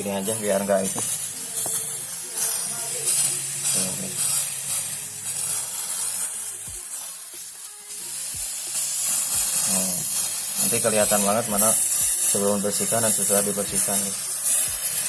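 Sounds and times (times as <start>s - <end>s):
background music: 0.0s - 15.0s
cleaner spray hissing: 0.0s - 15.0s.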